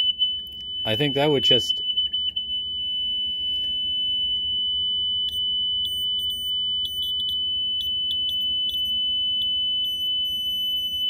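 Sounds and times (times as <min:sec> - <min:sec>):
high-pitched piezo tone: 0:00.0 - 0:11.0.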